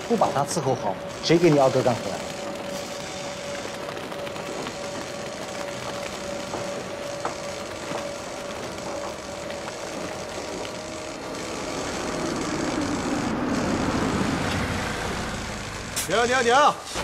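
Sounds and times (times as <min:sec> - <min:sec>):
concrete mixer: 0:00.0 - 0:17.0
construction machinery running: 0:00.0 - 0:17.0.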